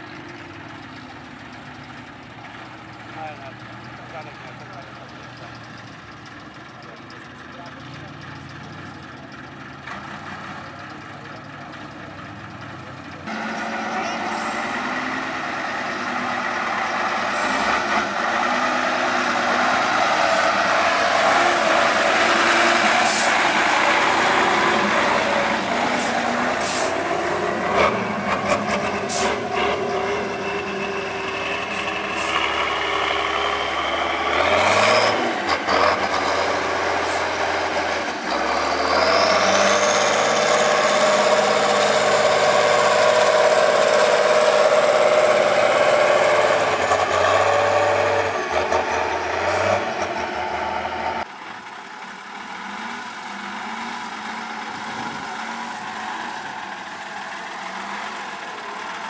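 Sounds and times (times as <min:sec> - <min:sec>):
big diesel truck engine revving: 0:00.0 - 0:59.0.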